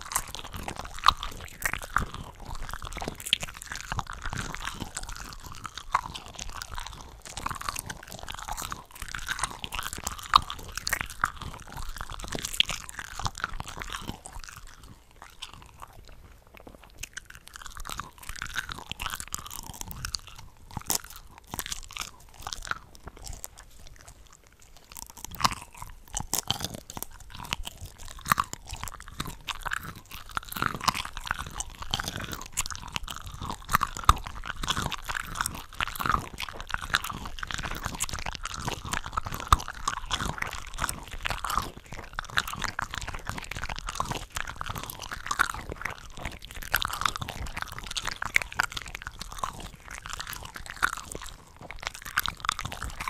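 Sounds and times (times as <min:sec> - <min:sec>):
shrimp crunching and chewing: 0:00.0 - 0:53.0.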